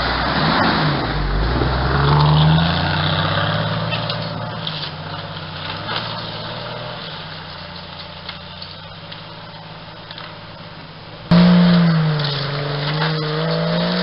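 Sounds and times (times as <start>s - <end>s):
car engine driving away: 0.0s - 14.0s.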